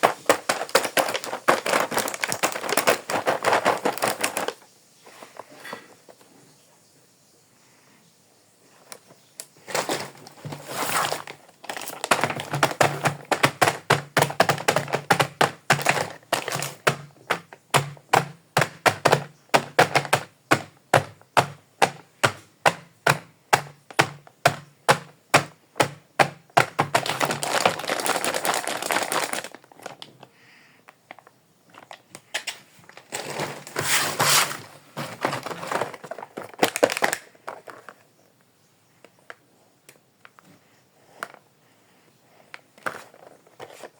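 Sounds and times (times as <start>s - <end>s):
scraping and handling noise: 0.0s - 6.6s, 8.7s - 38.4s, 40.2s - 41.5s, 42.3s - 43.9s.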